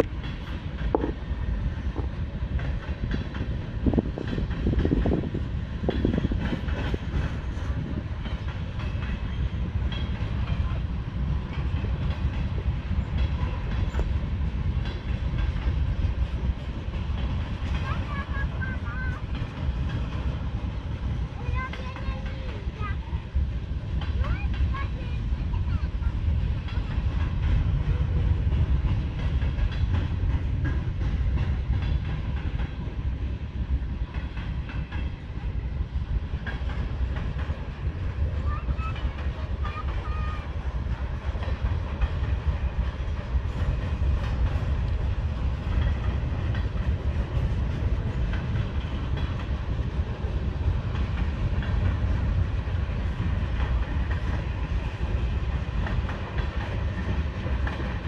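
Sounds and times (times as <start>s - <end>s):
freight train wheels rumbling: 0.0s - 58.0s
wheels clacking over rail joints: 0.0s - 58.0s.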